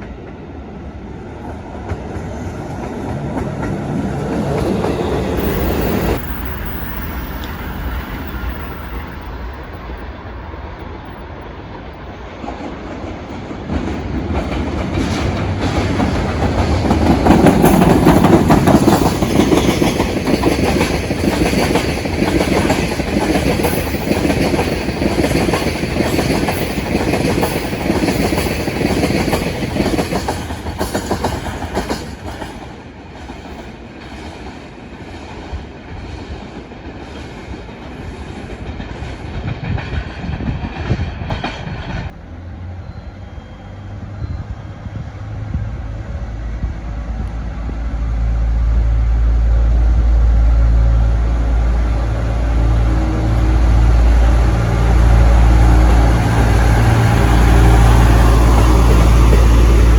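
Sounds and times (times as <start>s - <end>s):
train wheels clattering on rails: 1.4s - 42.2s, 51.3s - 59.9s.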